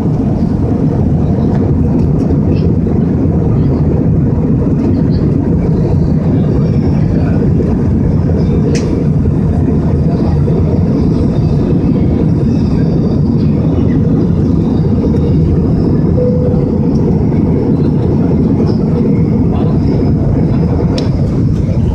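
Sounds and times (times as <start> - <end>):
airliner engine roar in cabin: 0.0 - 21.9.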